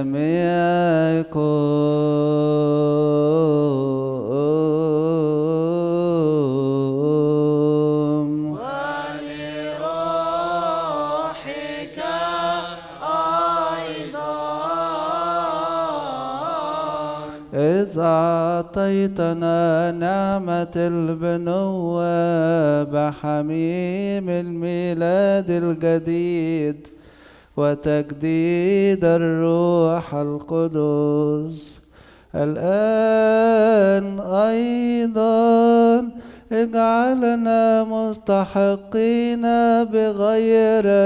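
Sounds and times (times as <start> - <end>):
man chanting: 0.0 - 26.9, 27.6 - 41.0.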